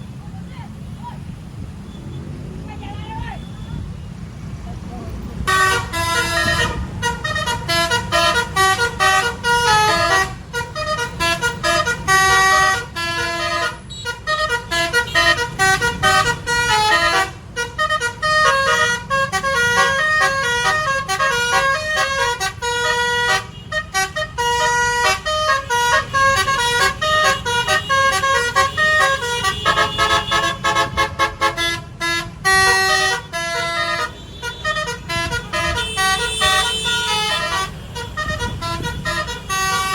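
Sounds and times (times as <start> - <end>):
multi-tone bus horn melody: 5.2 - 39.9.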